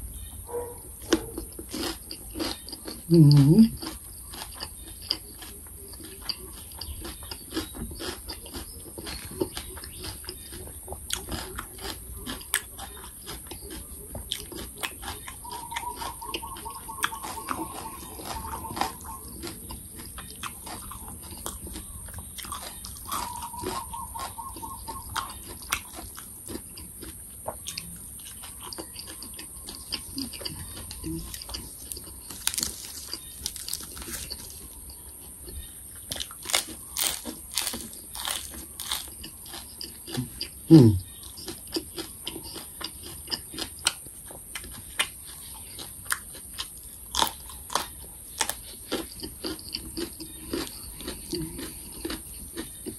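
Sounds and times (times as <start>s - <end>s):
crunchy chewing of raw vegetables: 0.0s - 52.9s.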